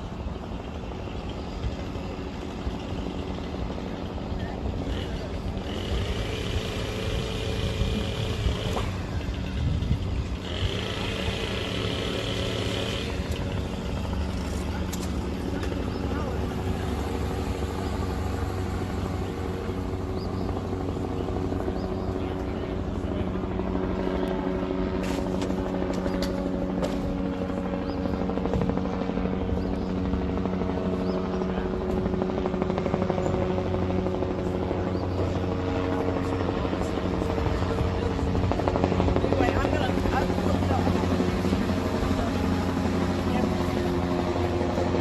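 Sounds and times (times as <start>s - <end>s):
helicopter engine and rotor drone: 0.0s - 45.0s
motor vehicle rumbling: 0.0s - 45.0s.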